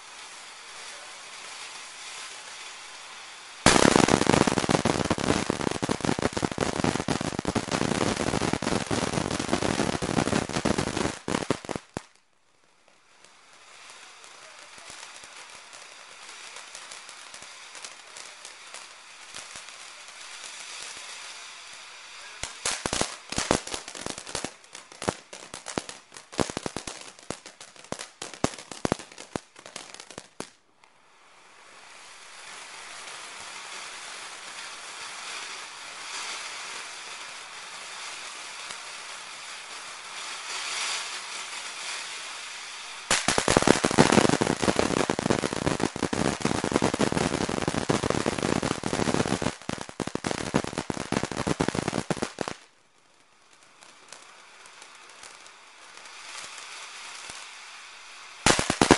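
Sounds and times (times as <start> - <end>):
dense crackling stars bursting: 0.0 - 58.9
firework fountain crackling: 0.0 - 58.9
firework fountain hissing: 0.0 - 58.9.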